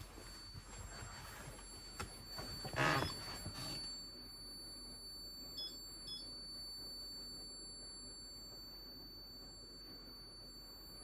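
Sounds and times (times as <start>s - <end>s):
faint high-pitched electronic whine: 0.0s - 11.0s.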